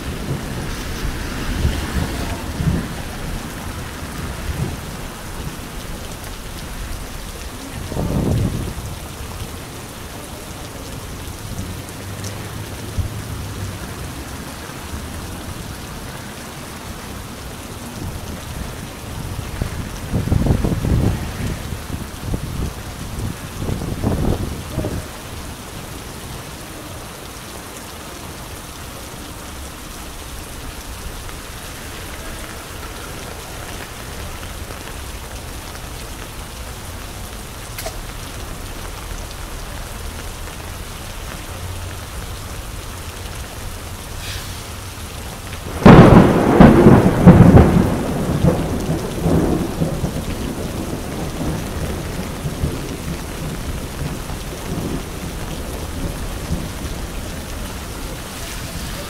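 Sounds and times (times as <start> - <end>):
rain on a wet street: 0.0 - 59.0.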